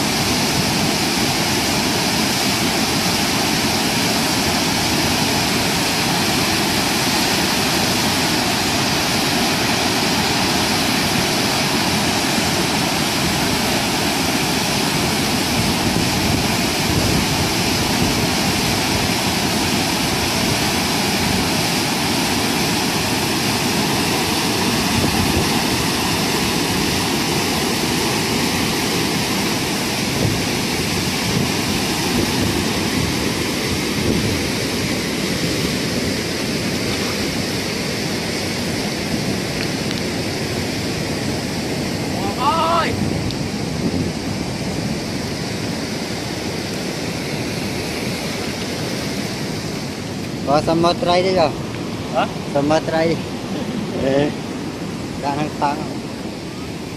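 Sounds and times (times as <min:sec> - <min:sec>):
water rushing over weir: 0:00.0 - 0:56.9.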